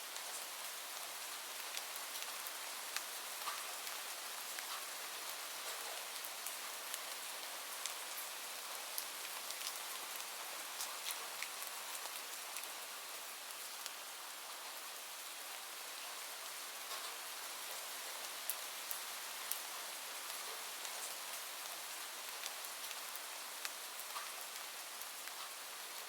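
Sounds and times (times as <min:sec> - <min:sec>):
raindrops ticking on surfaces: 0:00.0 - 0:26.0
steady rain hissing: 0:00.0 - 0:26.0.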